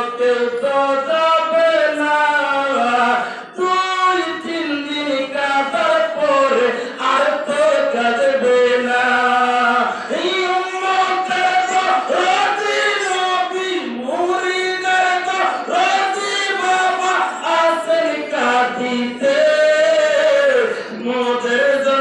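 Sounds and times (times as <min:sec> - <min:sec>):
man singing over a pa: 0:00.0 - 0:22.0.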